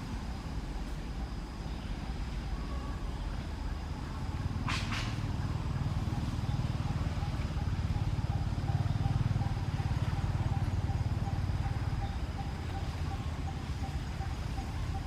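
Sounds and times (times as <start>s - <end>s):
engine running with low rumble: 0.0s - 15.0s.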